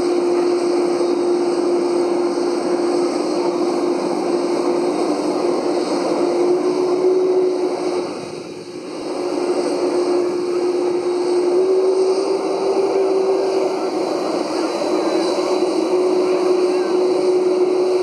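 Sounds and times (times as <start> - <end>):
airliner engines droning: 0.0 - 18.0.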